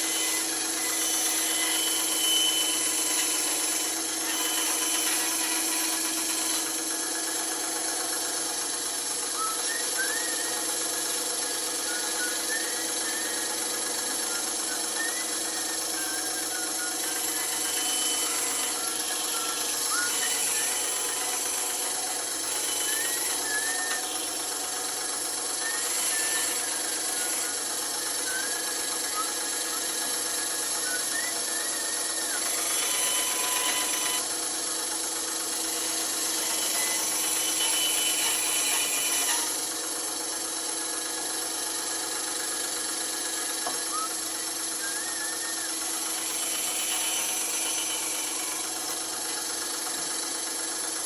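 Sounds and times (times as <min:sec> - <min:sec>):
bandsaw cutting wood: 0:00.0 - 0:51.0.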